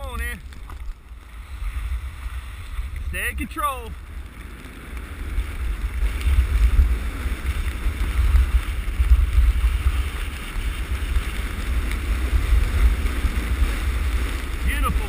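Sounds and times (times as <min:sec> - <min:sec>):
skis sliding on snow: 0:00.0 - 0:15.0
wind rushing over microphone: 0:00.0 - 0:15.0.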